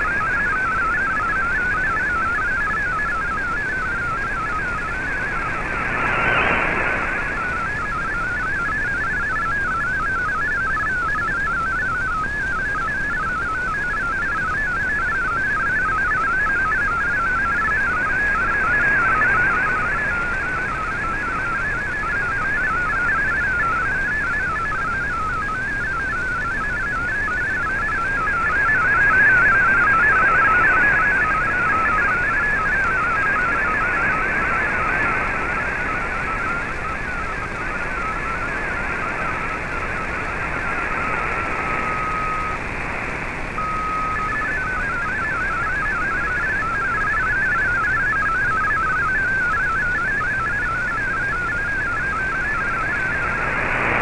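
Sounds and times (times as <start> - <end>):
radio hiss: 0.0 - 10.0, 16.6 - 25.0, 26.3 - 48.0, 49.3 - 54.0
warbling digital data tones: 0.0 - 11.0, 14.5 - 25.7, 26.8 - 54.0.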